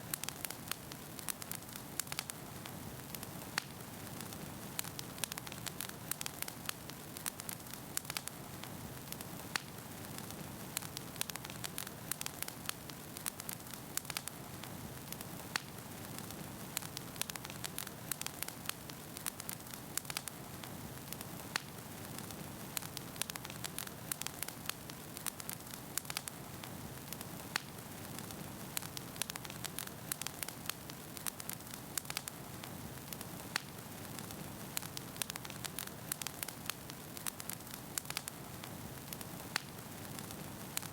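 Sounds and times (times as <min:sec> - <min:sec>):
logs crackling and popping: 0:00.0 - 0:40.9.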